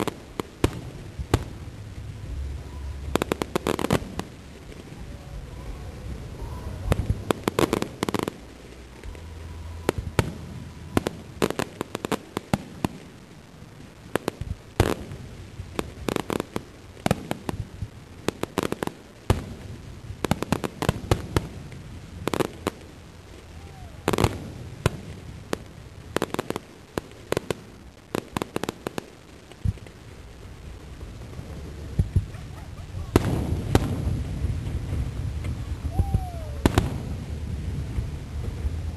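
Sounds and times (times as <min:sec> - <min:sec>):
fireworks bursting with bangs and pops: 0:00.0 - 0:38.9.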